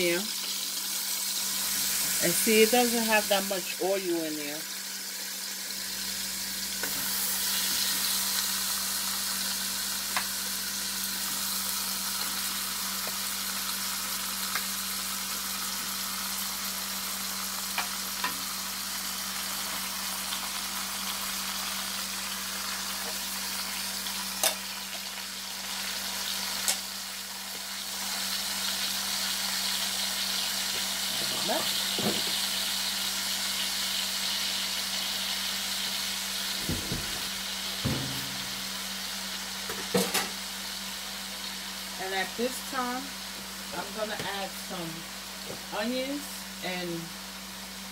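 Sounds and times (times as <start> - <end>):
meat sizzling in a pan: 0.0 - 47.9.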